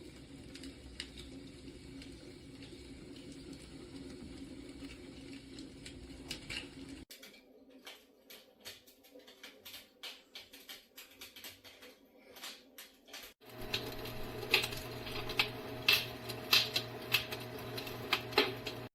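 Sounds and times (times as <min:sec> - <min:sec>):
recorded fire crackling: 0:00.0 - 0:18.9.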